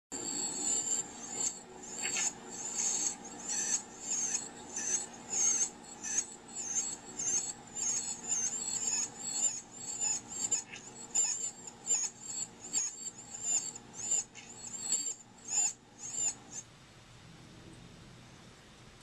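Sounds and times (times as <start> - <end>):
wren chirping: 0.2 - 16.6.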